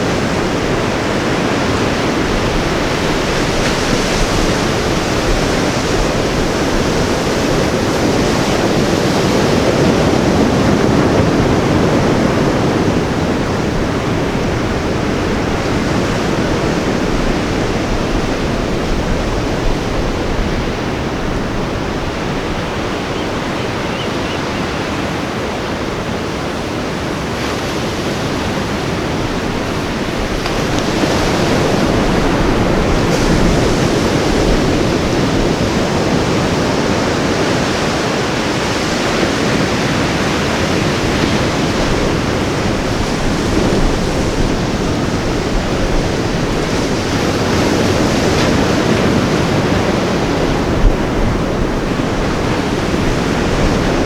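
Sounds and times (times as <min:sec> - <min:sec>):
ocean surf washing on beach: 0:00.0 - 0:54.0.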